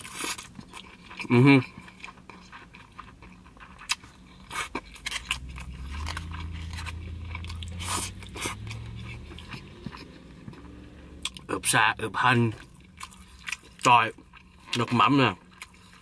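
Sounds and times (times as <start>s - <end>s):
chewing with wet mouth smacks: 0.0s - 16.0s
low steady hum: 0.0s - 16.0s.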